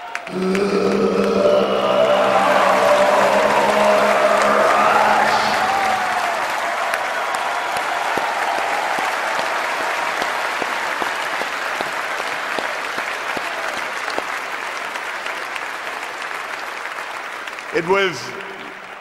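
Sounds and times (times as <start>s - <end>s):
large audience applauding: 0.0s - 19.0s.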